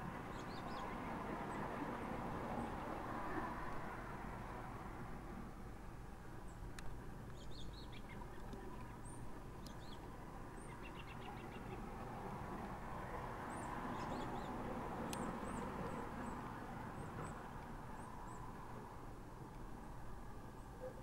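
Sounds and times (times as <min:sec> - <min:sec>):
traffic hum: 0:00.0 - 0:21.0.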